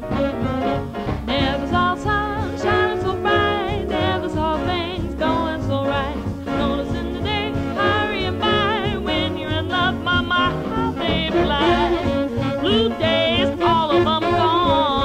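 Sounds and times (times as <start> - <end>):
drums: 0.0 - 15.0
horns: 0.0 - 15.0
swing jazz band: 0.0 - 15.0
upright bass: 0.0 - 15.0
long vibrato notes: 0.2 - 15.0.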